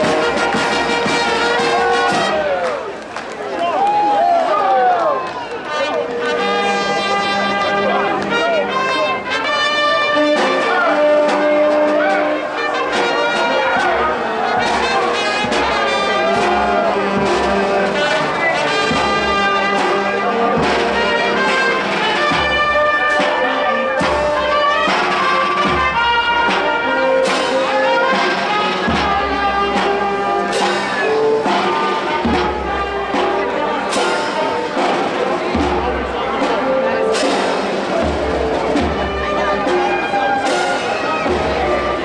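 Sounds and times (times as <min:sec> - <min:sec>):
brass band playing: 0:00.0 - 0:03.3, 0:04.2 - 0:42.0
trumpets and trombones: 0:00.0 - 0:03.3, 0:04.6 - 0:42.0.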